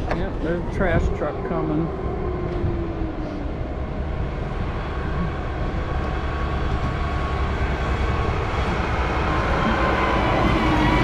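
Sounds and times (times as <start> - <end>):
faint engine whine: 0.0 - 11.0
garbage truck engine rumble: 0.0 - 11.0.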